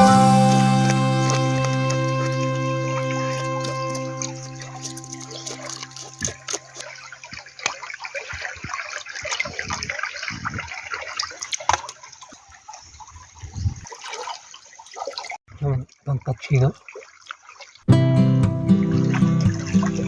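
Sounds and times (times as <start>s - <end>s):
water splashing and trickling: 0.0s - 17.9s, 18.7s - 20.0s.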